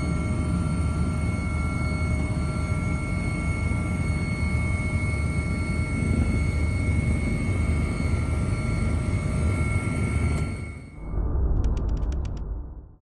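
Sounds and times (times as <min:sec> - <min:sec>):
helicopter rotor and engine rumble: 0:00.0 - 0:12.9.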